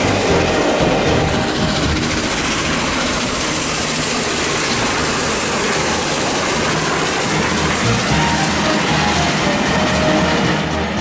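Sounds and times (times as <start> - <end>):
steam train passing at speed: 0.0 - 11.0.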